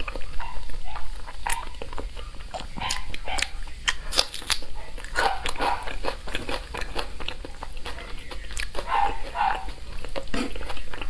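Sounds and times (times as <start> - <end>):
chewing with lip smacks: 0.0 - 11.0.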